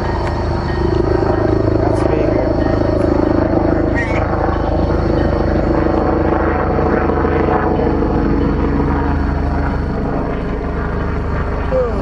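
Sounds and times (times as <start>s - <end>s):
locomotive diesel engine running: 0.0s - 12.0s.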